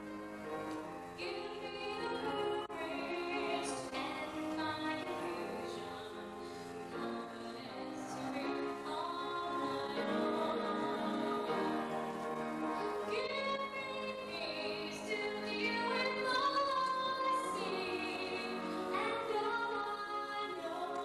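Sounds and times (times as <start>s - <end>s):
woman singing into a microphone: 1.1s - 12.1s, 12.7s - 21.0s.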